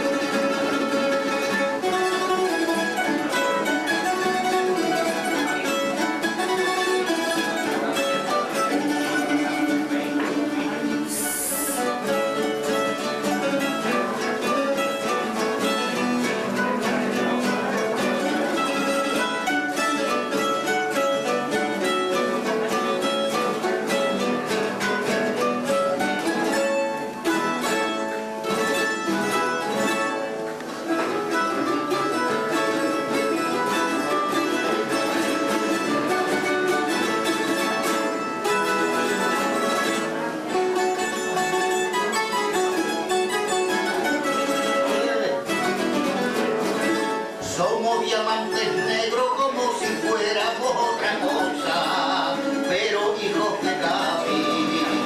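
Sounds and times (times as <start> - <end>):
plucked string trio playing: 0.0 - 55.0.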